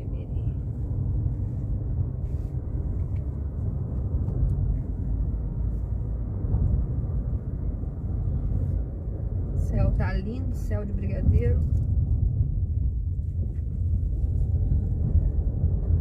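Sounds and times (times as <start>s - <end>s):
car engine and tyre road noise: 0.0s - 16.0s.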